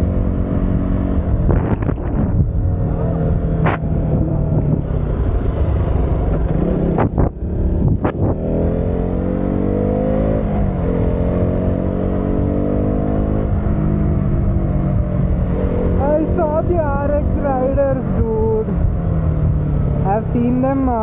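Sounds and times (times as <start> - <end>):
motorcycle engine accelerating: 0.0 - 21.0
wind and road noise: 0.0 - 21.0.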